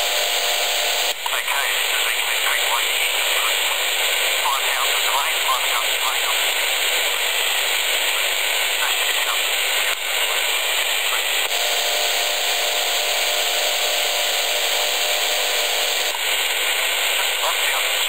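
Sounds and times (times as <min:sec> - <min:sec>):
radio static hissing: 0:00.0 - 0:18.0.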